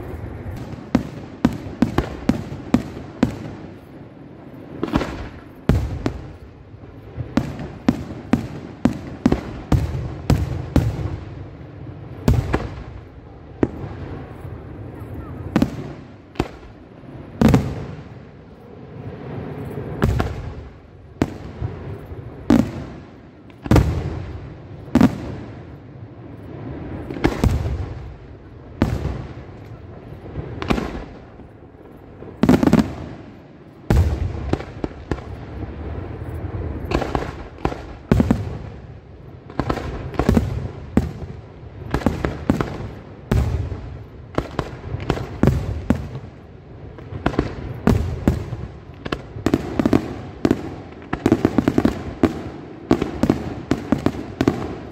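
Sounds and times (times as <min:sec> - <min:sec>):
firework crackling: 0:00.0 - 0:54.9.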